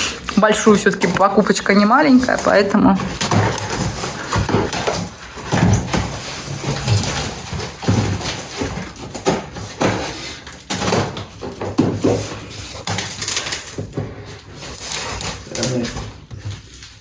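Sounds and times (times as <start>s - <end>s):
cardboard box scraping and rustling: 0.0s - 17.0s.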